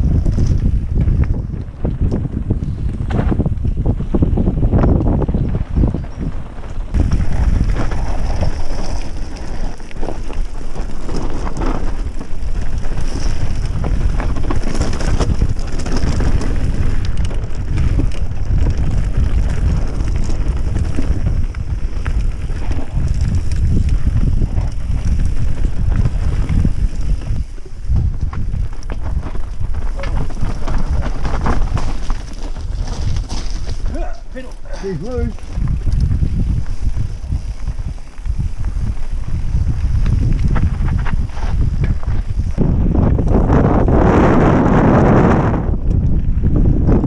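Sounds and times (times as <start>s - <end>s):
bike rattling over stones: 0.0s - 47.0s
wind buffeting microphone: 0.0s - 47.0s.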